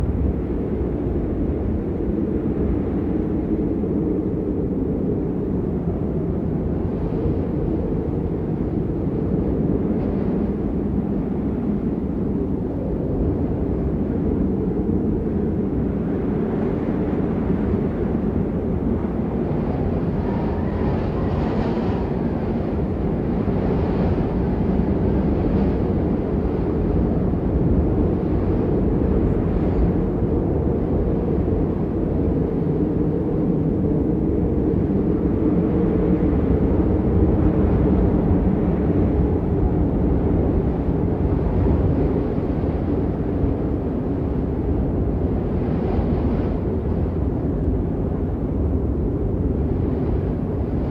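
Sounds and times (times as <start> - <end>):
storm wind rumble: 0.0 - 50.9.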